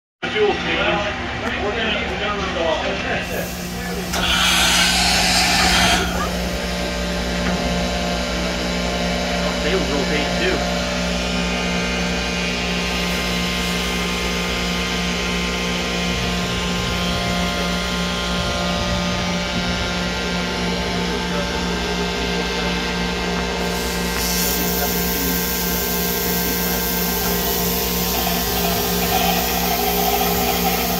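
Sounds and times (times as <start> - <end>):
cnc machine humming and whining: 0.4 - 30.9.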